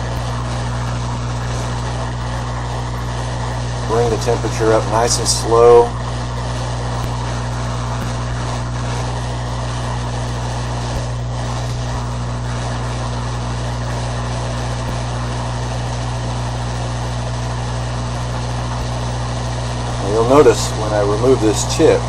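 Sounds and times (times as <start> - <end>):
hot air hissing: 0.0 - 22.0
low fan hum: 0.0 - 22.0.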